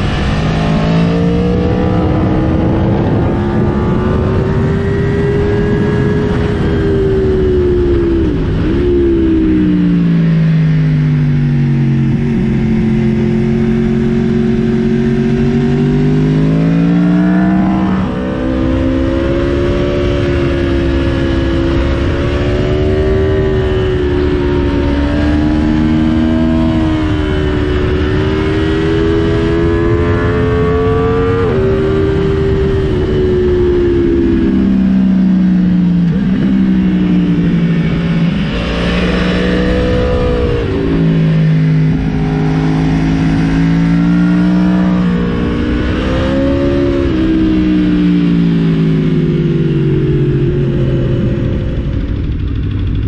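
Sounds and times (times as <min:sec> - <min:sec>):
motorcycle engine: 0:00.0 - 0:53.0
wind rushing over microphone: 0:00.0 - 0:53.0.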